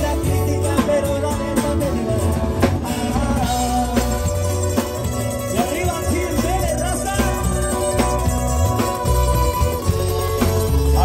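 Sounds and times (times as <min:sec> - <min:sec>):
acoustic guitar: 0:00.0 - 0:11.0
drum kit beat: 0:00.0 - 0:11.0
electric bass: 0:00.0 - 0:11.0
person singing: 0:00.0 - 0:11.0.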